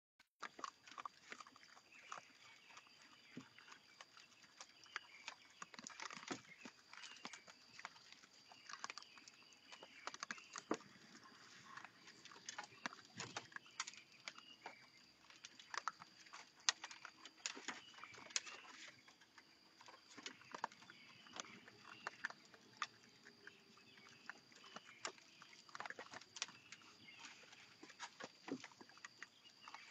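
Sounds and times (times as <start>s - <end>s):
raccoons crunching and scrabbling: 0.4s - 29.9s.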